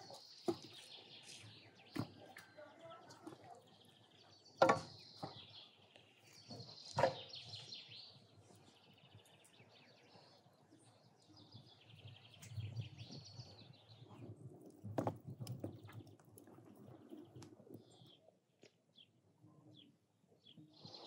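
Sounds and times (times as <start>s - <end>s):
small songbirds singing: 0.0s - 21.0s.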